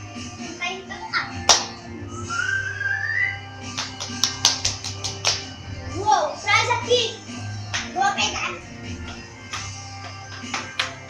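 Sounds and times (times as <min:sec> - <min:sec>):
background music: 0:00.0 - 0:11.0
rising whistling tone: 0:00.0 - 0:11.0.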